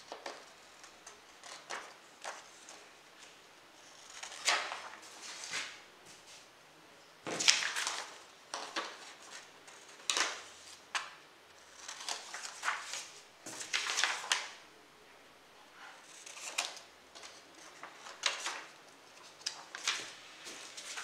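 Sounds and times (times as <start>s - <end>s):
paper sheets rustling: 0.0s - 6.5s, 7.3s - 14.6s, 15.8s - 21.0s.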